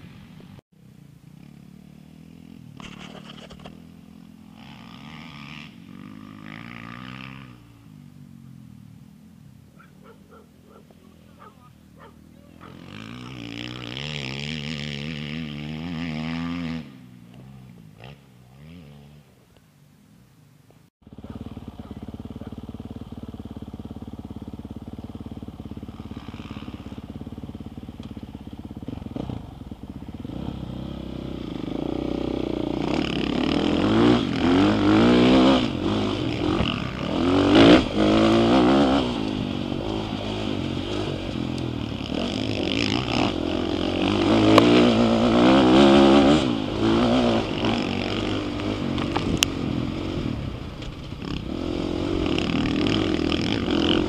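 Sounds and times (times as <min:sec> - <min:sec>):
dirt bike engine revving: 0:01.3 - 0:08.8, 0:09.8 - 0:19.4, 0:21.0 - 0:54.0.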